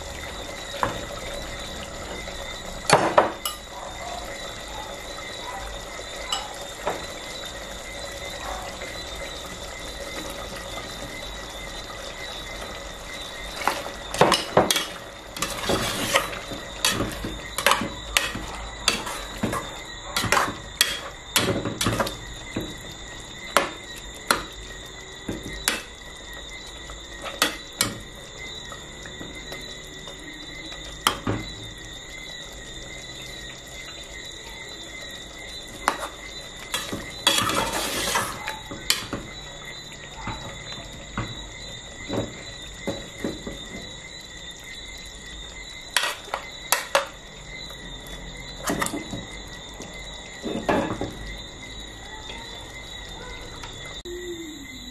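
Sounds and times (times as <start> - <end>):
curry bubbling: 0.0 - 54.9.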